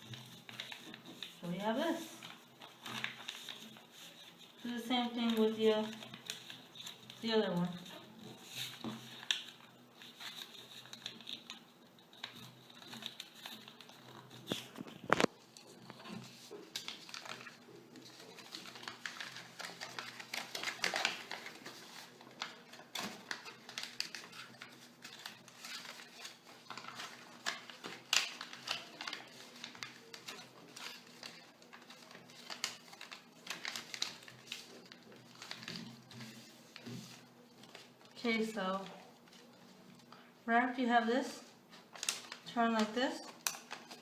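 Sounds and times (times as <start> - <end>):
paper crinkling and rustling: 0.0 - 40.2, 41.4 - 44.0.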